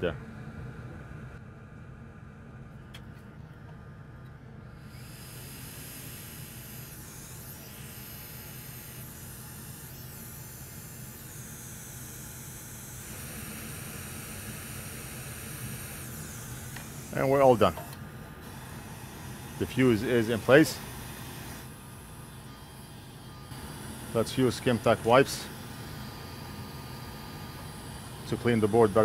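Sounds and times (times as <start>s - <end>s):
extractor fan whirring: 2.7s - 29.0s.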